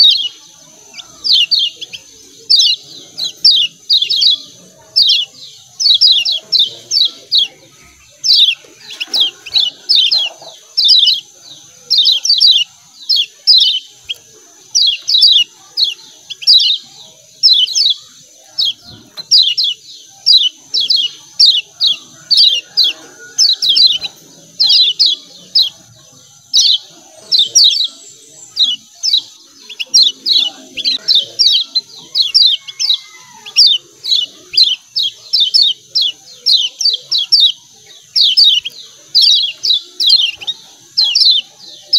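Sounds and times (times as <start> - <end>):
bird rapid high chirps: 0.0 - 41.9.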